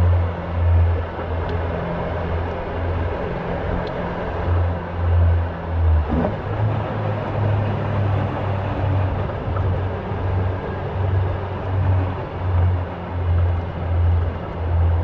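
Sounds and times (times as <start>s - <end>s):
car engine droning: 0.0s - 15.0s
road and wind rush: 0.0s - 15.0s.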